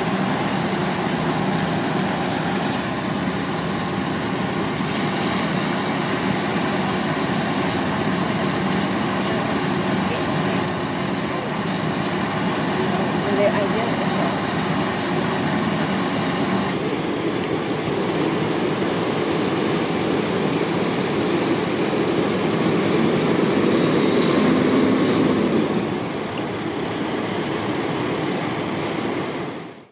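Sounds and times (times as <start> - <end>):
vehicle engine rumbling: 0.0 - 29.9.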